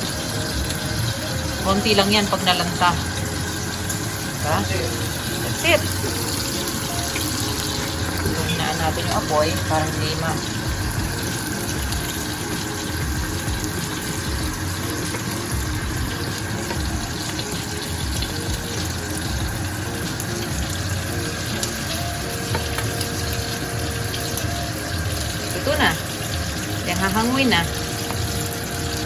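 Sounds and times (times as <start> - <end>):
soup boiling with steady bubbling: 0.0 - 29.0.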